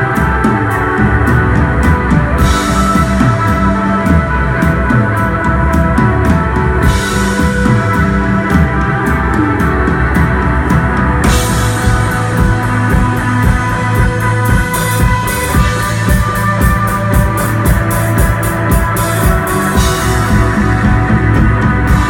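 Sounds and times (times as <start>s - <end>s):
psychedelic rock band playing: 0.0s - 22.0s.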